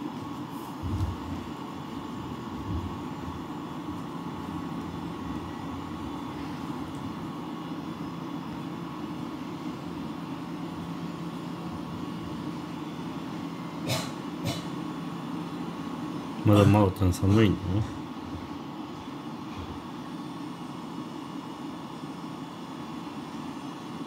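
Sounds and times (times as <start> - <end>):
appliance mechanical hum: 0.0 - 24.0.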